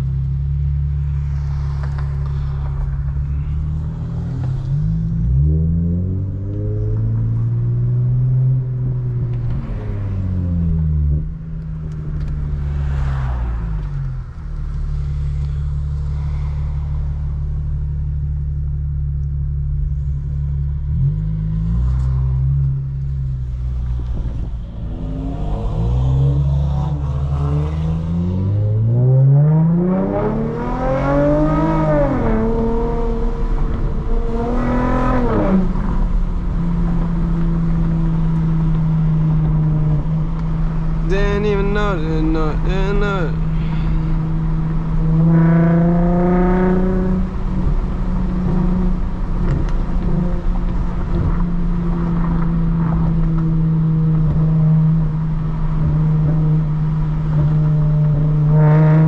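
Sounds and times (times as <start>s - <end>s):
car engine cruising and revving: 0.0s - 59.0s.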